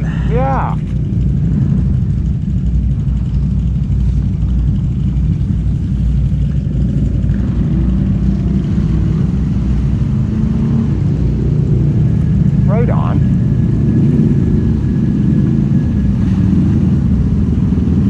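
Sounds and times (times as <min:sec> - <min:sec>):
off-road vehicle engines rumbling: 0:00.0 - 0:18.0.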